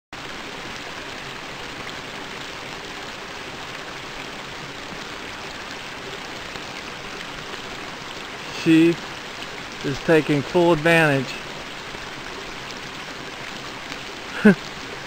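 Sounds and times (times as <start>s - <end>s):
creek water running over rocks: 0.2s - 15.0s.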